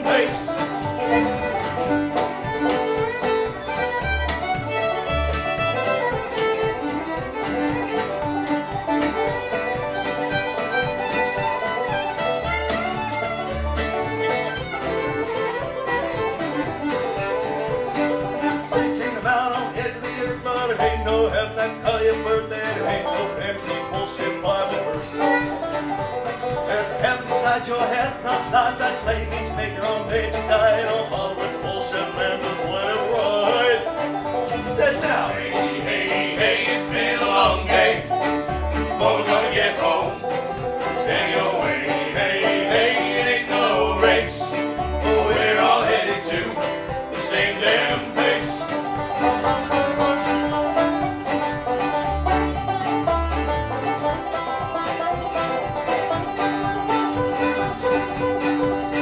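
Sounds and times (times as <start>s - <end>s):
bluegrass string band: 0.0s - 59.0s
fiddle: 0.0s - 59.0s.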